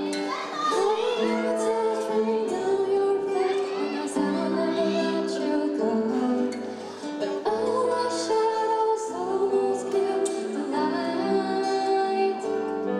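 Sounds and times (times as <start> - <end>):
acoustic guitar: 0.0 - 12.9
woman singing slow song: 0.0 - 12.9.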